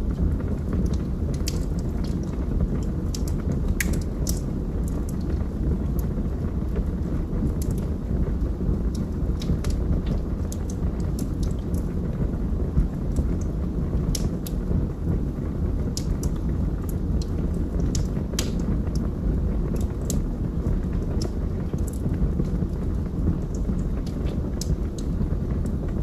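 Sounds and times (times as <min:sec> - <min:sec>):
fire flames burning: 0:00.0 - 0:26.0
logs crackling and popping: 0:00.0 - 0:26.0.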